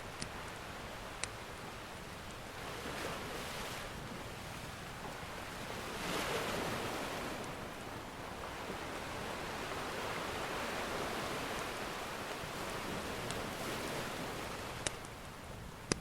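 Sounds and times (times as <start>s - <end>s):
ocean surf washing in: 0.0s - 15.1s.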